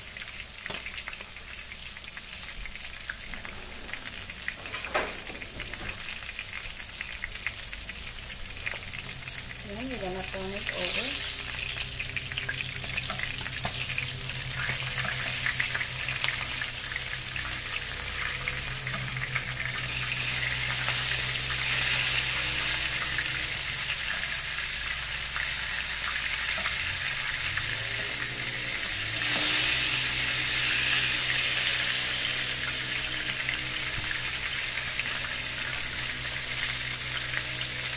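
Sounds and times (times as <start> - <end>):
fish frying in oil: 0.0 - 37.9.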